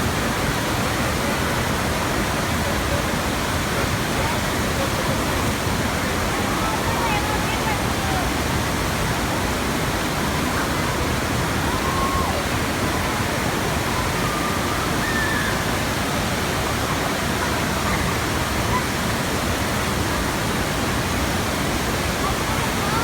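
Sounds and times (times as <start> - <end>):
loud rush of pumped water: 0.0 - 23.0
faint voices: 0.2 - 23.0.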